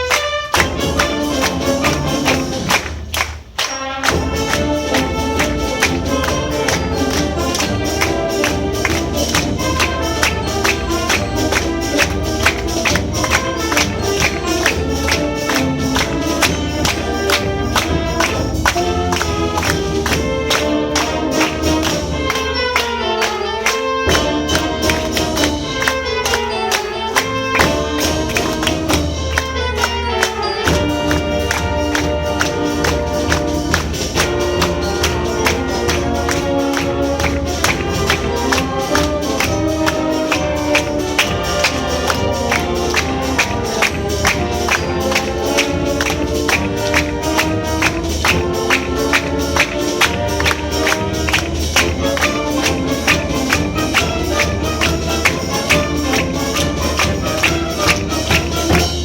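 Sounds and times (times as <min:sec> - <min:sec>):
brass and woodwind chords: 0:00.0 - 0:59.0
concert wind band playing: 0:00.0 - 0:59.0
percussion strokes: 0:00.0 - 0:59.0.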